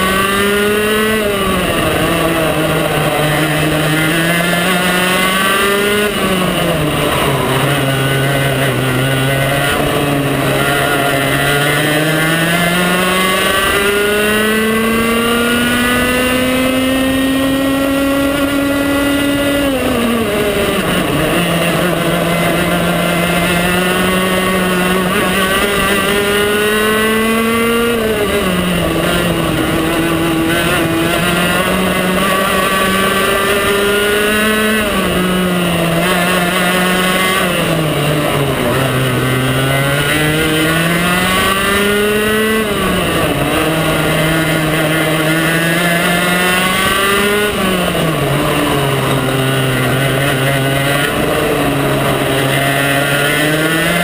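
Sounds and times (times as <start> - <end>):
kart engine accelerating and braking: 0.0 - 54.0.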